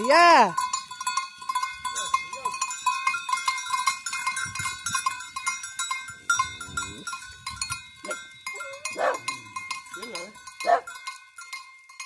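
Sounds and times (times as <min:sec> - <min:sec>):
goat bells clanking: 0:00.0 - 0:12.0.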